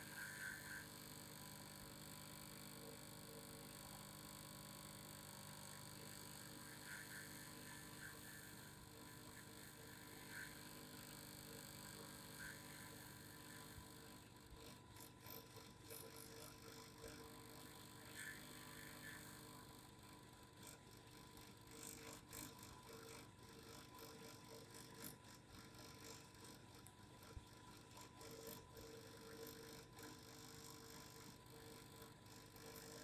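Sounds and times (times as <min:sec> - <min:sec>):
vibrating device hum: 0:00.0 - 0:33.0.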